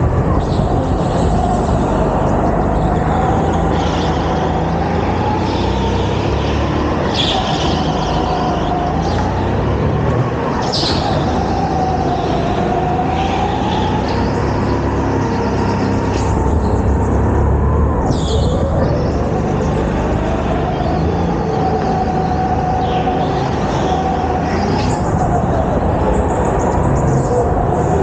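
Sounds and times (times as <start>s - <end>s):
go-kart engine roar: 0.0s - 28.0s
tyre squeals: 0.3s - 26.0s.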